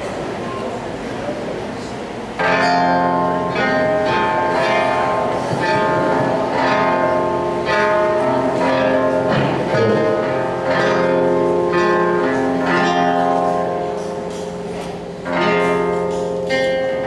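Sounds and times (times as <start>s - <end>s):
guitar chords: 2.3s - 17.0s.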